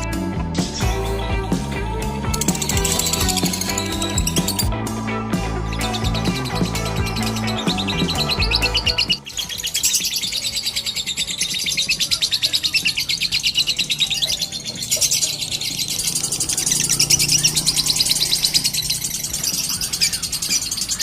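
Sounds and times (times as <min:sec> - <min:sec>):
lovebird chattering trill: 0:02.4 - 0:04.7, 0:05.8 - 0:21.0.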